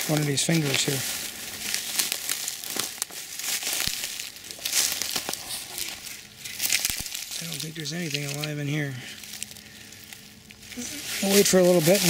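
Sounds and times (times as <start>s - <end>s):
footsteps crunching dry grass: 0.0s - 12.0s.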